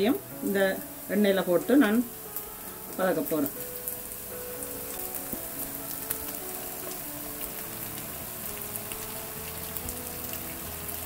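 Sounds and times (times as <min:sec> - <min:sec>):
prawns sizzling in hot oil: 0:00.0 - 0:11.0
soft background music: 0:00.0 - 0:11.0.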